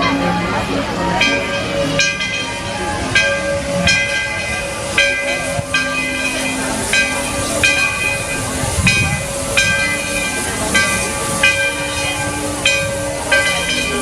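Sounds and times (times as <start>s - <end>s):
locomotive bell ringing: 0.0s - 14.0s
steam hissing: 0.6s - 14.0s.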